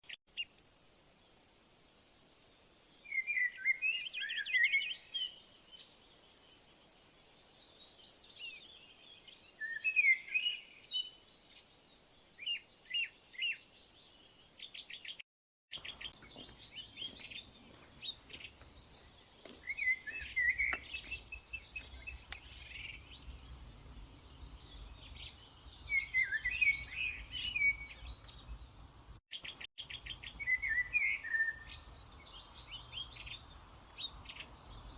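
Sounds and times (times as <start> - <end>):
songbirds chirping and trilling: 2.6 - 34.9.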